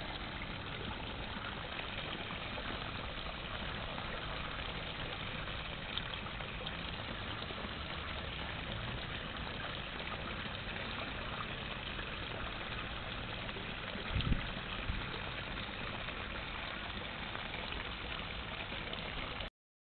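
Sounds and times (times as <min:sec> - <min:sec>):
water rushing: 0:00.0 - 0:19.5.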